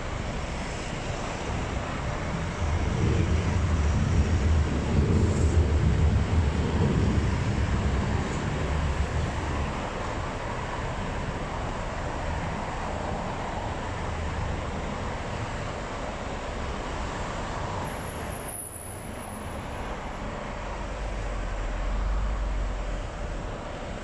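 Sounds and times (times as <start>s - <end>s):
road vehicles going by: 0.0s - 24.0s.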